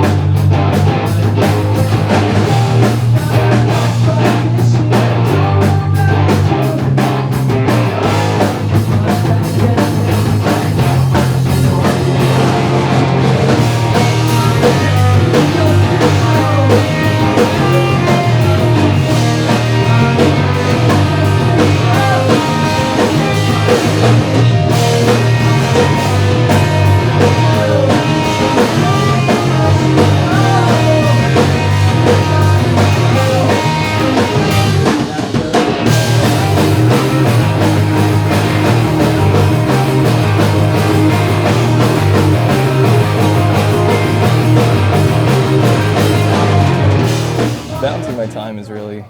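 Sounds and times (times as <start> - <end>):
rock band playing: 0.0 - 49.0.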